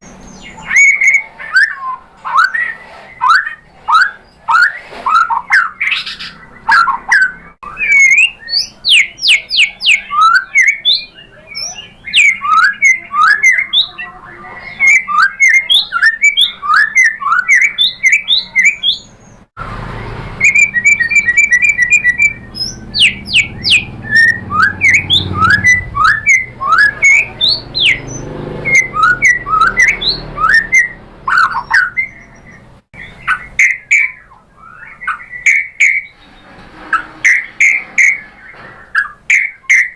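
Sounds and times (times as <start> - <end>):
bird singing whistled phrases: 0.0 - 36.2, 39.0 - 39.9.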